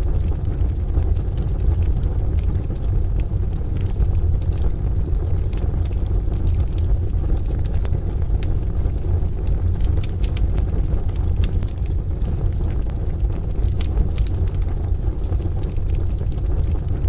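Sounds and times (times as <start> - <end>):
deep rumble: 0.0 - 17.0
wood fire crackling in stove: 0.0 - 17.0.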